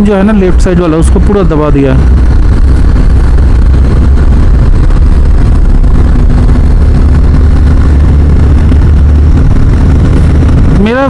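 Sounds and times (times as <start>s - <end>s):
motorcycle engine and road rumble: 0.0s - 11.0s
wind noise on microphone: 0.0s - 11.0s.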